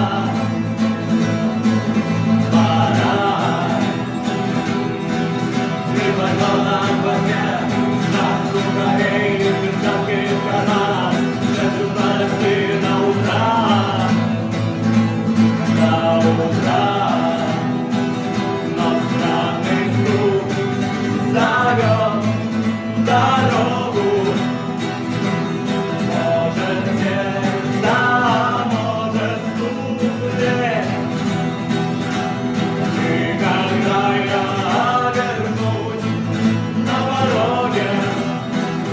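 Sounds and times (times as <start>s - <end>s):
guitar music: 0.0s - 38.9s.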